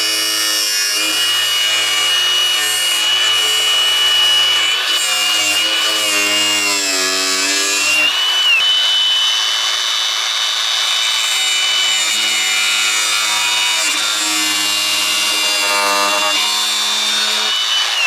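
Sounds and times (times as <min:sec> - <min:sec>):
angle grinder cutting: 0:00.0 - 0:18.0.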